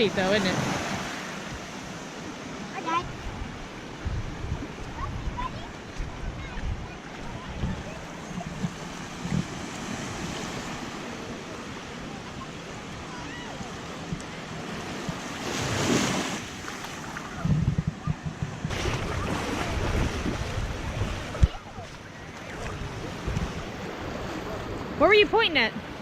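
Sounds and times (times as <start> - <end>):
wave breaking: 0.0 - 25.5
ocean surf washing ashore: 0.0 - 26.0
wind buffeting microphone: 2.9 - 11.4, 12.8 - 25.7.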